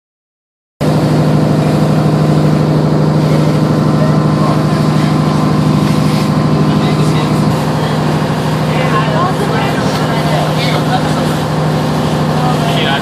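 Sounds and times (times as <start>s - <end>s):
motorboat engine running: 0.8s - 13.0s.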